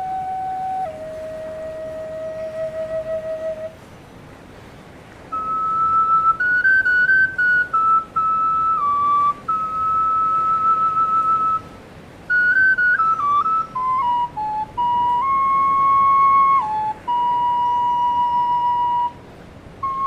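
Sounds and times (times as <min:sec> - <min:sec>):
solo flute melody: 0:00.0 - 0:04.0, 0:05.2 - 0:20.0.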